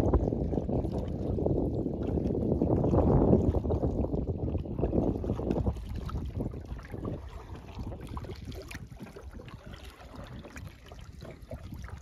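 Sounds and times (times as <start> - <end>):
waves lapping against canoe: 0.0 - 12.0
wind rumbling on microphone: 0.0 - 12.0.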